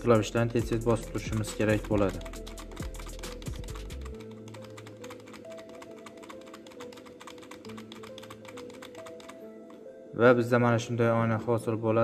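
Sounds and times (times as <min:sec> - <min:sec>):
keyboard keys tapped rapidly: 0:00.0 - 0:09.8
background music: 0:00.0 - 0:12.0.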